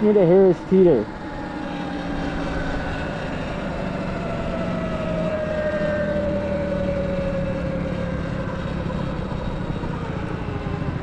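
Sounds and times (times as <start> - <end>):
motorbike running: 0.0 - 11.0.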